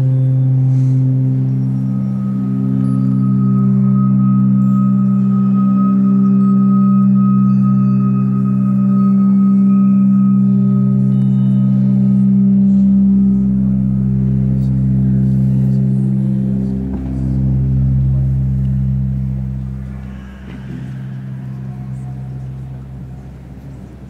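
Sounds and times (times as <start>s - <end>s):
ambient electronic drone music: 0.0s - 24.0s.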